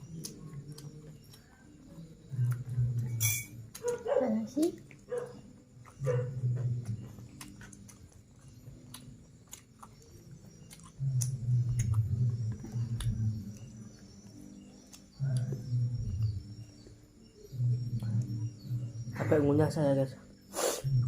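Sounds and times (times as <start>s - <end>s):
chewing food close up: 0.0s - 19.0s
faint bird chirps: 0.0s - 21.0s.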